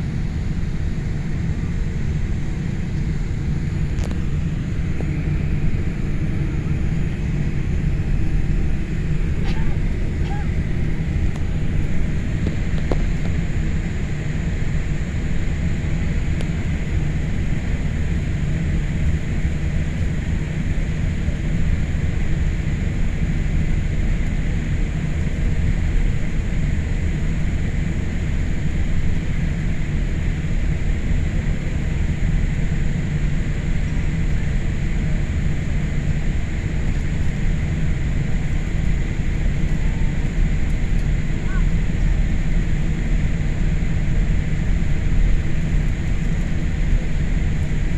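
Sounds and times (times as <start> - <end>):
airplane cabin rumble and hiss: 0.0 - 47.9.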